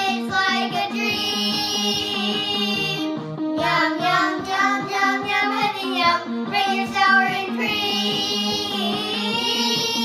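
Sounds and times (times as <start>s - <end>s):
backing track with bass line: 0.0s - 10.0s.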